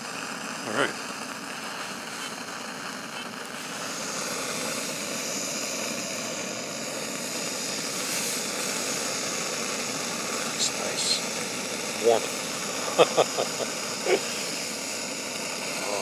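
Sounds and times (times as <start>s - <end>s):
stove burner hissing: 0.0s - 16.0s.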